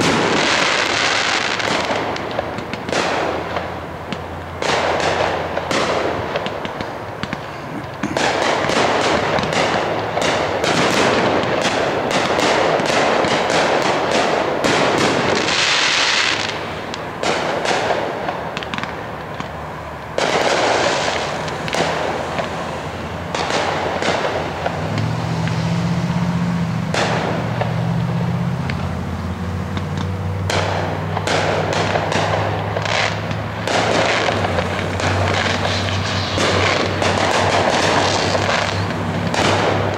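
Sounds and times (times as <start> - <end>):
firework shells bursting with crackle: 0.0 - 25.8, 26.6 - 39.9.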